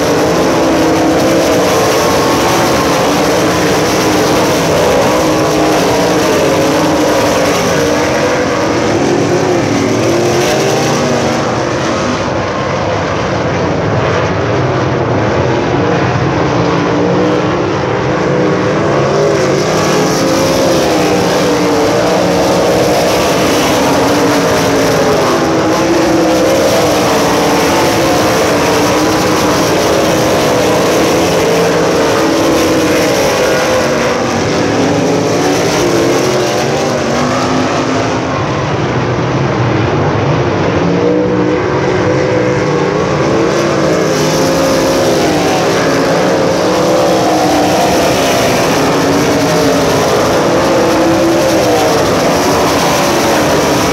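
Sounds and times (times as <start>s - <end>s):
race car engines passing: 0.0s - 53.9s.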